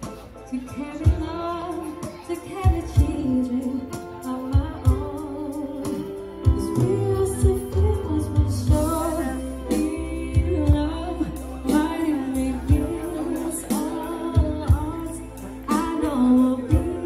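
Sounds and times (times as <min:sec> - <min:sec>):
acoustic guitar: 0:00.0 - 0:17.0
woman singing: 0:00.5 - 0:17.0.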